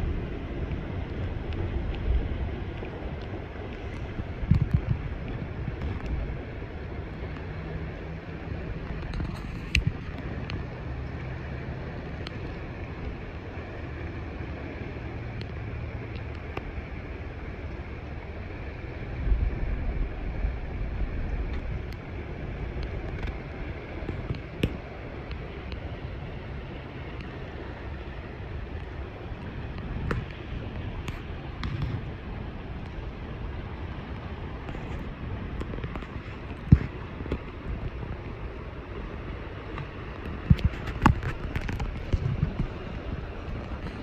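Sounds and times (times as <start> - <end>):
river rushing over gravel: 0.0 - 44.0
wind rumbling on microphone: 0.0 - 44.0.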